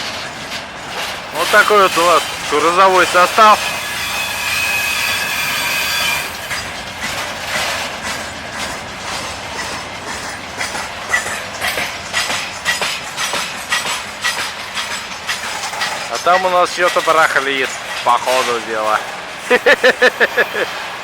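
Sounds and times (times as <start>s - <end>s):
high squeal of train wheels: 0.0s - 21.0s
train wheels clacking over rail joints: 0.0s - 21.0s.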